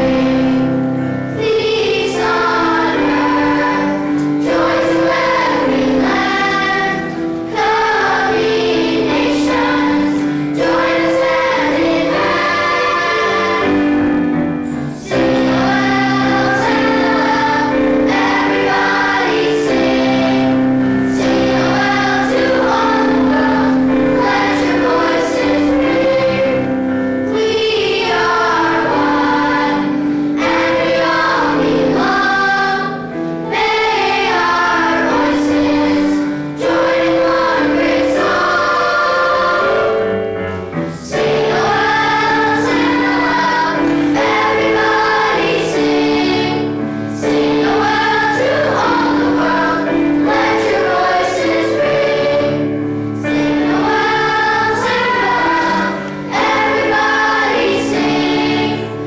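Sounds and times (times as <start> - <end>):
choir singing: 0.0 - 59.0
instrumental accompaniment: 0.0 - 59.0.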